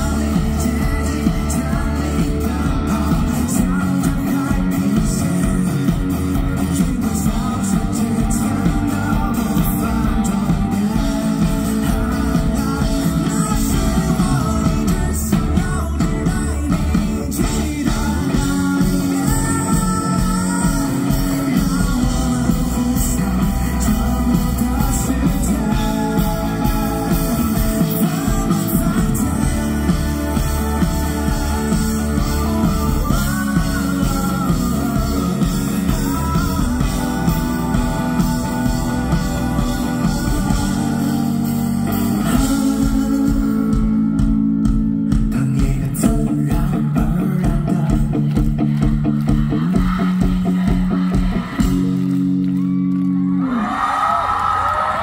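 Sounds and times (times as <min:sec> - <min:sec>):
person singing into microphone: 0:00.0 - 0:44.3, 0:45.0 - 0:48.9
drums: 0:00.0 - 0:55.0
electric guitar: 0:00.0 - 0:55.0.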